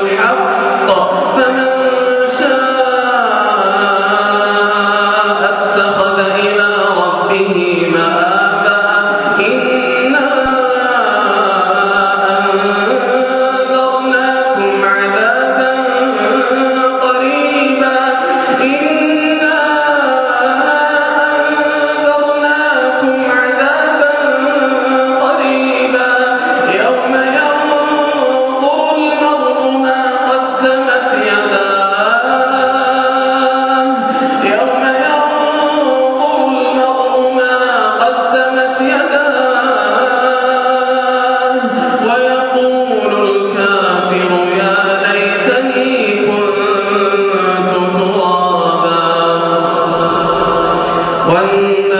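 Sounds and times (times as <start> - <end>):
man chanting melodically: 0.0 - 51.9.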